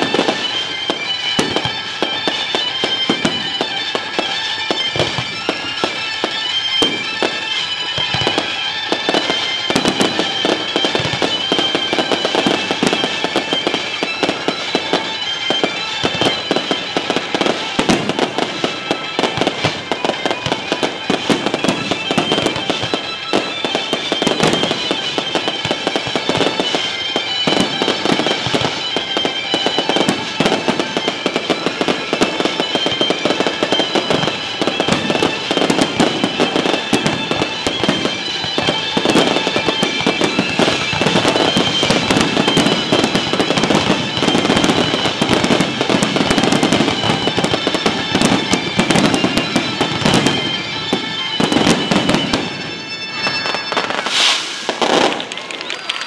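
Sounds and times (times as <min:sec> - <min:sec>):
fireworks bursting and crackling: 0:00.0 - 0:56.0
music playing: 0:00.0 - 0:56.0.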